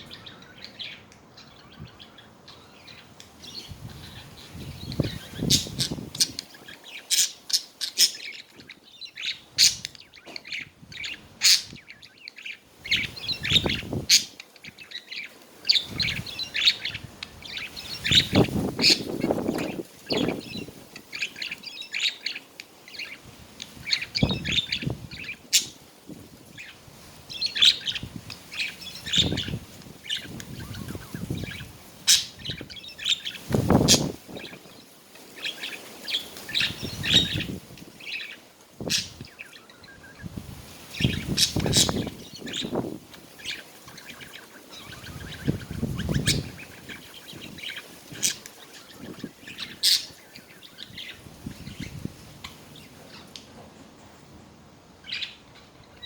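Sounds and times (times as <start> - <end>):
budgies chattering and warbling: 0.0 - 25.8, 26.5 - 53.4, 55.0 - 56.0.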